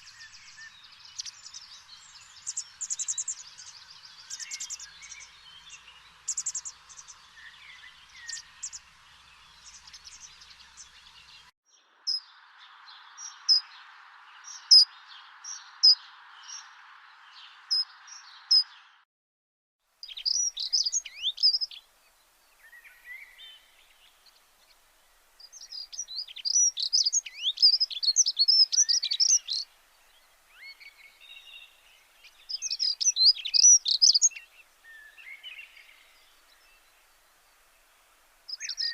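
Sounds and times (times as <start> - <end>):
faint steady hiss: 0.0 - 18.0, 19.8 - 38.9
small birds chirping and trilling: 0.0 - 19.0, 20.0 - 38.9.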